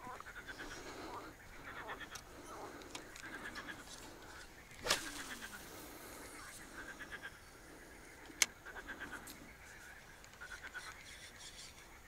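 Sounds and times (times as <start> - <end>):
rapid-pulsed animal calls: 0.0 - 12.0.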